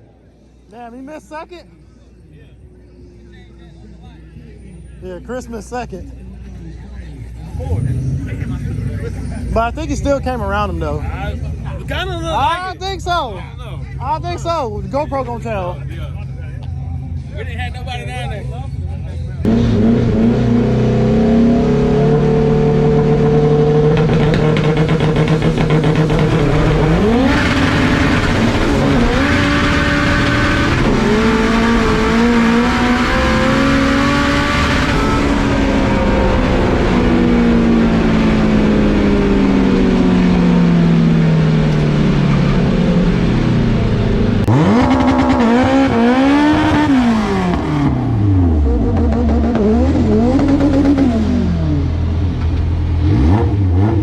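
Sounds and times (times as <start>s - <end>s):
drag race car engines revving: 3.0s - 54.0s.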